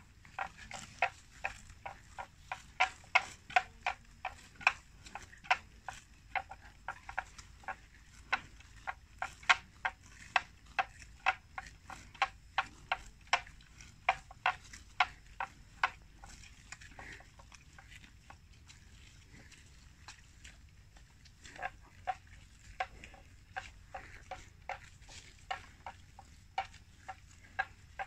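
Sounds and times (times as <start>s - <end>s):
water buffalo tearing grass: 0.0s - 28.0s.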